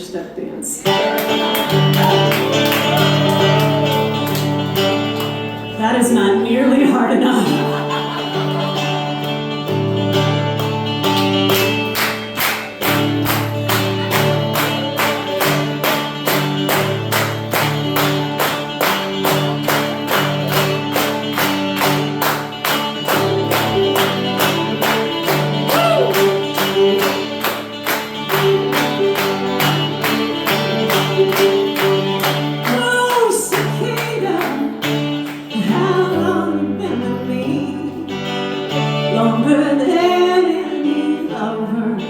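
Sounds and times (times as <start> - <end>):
acoustic guitar and fiddle: 0.8 - 42.0.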